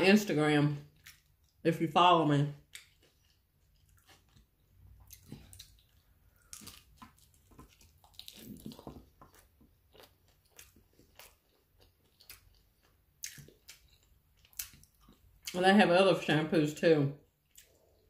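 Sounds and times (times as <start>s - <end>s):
person chewing: 0.8s - 1.6s, 2.6s - 15.6s, 17.3s - 18.0s.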